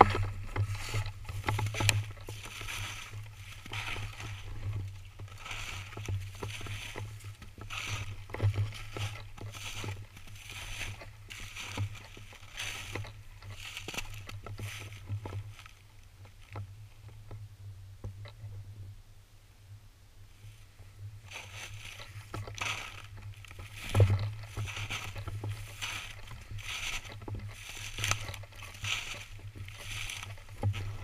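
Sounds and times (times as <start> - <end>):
footsteps crunching through snow: 0.0 - 15.8, 21.3 - 31.0.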